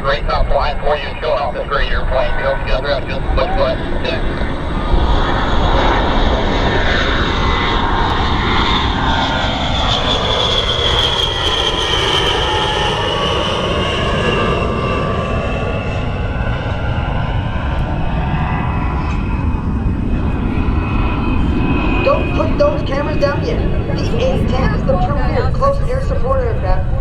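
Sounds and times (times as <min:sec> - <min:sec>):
jet engine roar and whine: 0:00.0 - 0:27.0.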